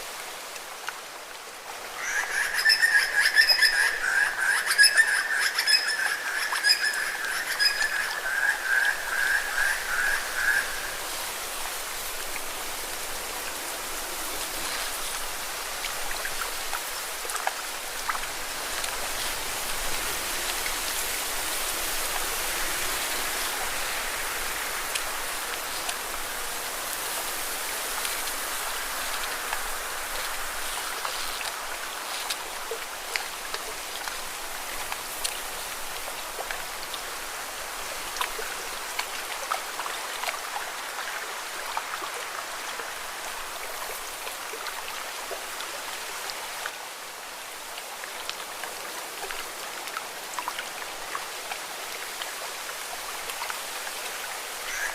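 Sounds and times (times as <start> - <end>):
small water splashes and drips: 0.0 - 4.2, 5.4 - 54.9.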